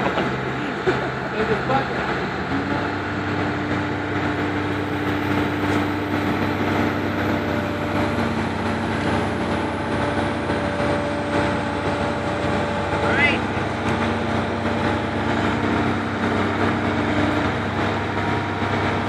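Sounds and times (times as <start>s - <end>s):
diesel engines running: 0.0s - 19.0s
hydraulic hum: 0.0s - 19.0s.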